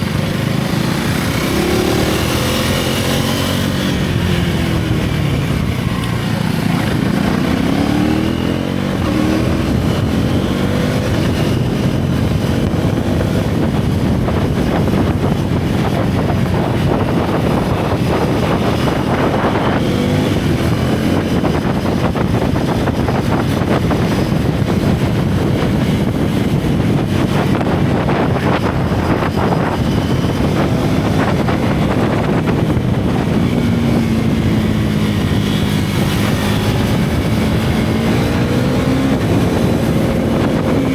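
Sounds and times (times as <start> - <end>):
motorcycle engine revving: 0.0 - 40.9
wind on microphone: 0.0 - 40.9.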